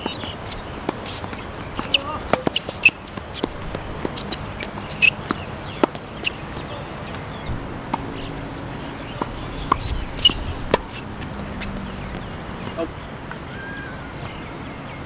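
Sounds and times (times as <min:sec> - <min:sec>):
tennis ball hits: 0:00.0 - 0:08.3, 0:09.0 - 0:13.4.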